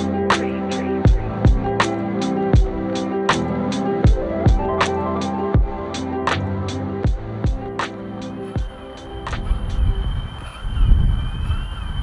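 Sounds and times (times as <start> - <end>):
background music with steady beat: 0.0 - 10.3.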